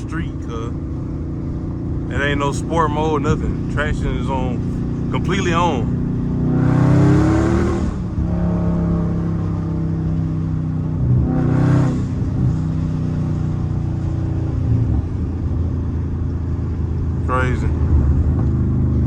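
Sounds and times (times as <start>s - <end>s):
car engine under throttle: 0.0s - 19.0s.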